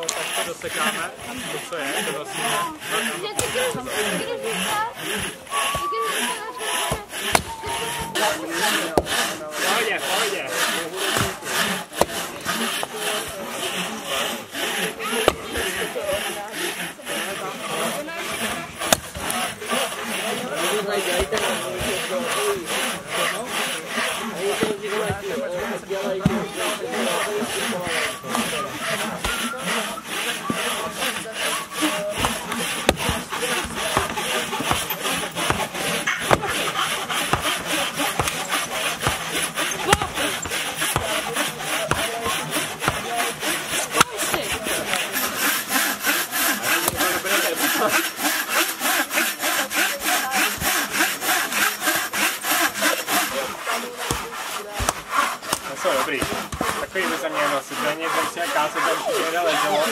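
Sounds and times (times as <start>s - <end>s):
hand saw cutting wood: 0.0s - 59.9s.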